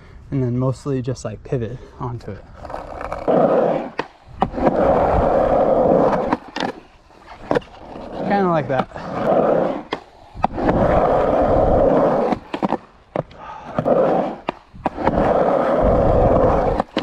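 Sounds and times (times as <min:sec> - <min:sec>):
skateboard wheels rolling on concrete: 0:00.4 - 0:17.0.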